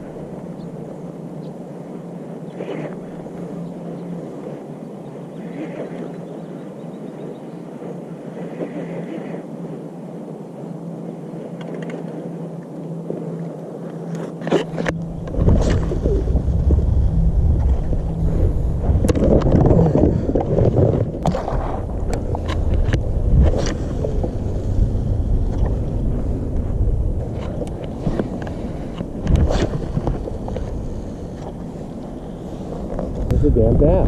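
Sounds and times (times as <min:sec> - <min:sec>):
low hum: 0:00.0 - 0:34.0
wind rumbling on microphone: 0:00.0 - 0:34.0.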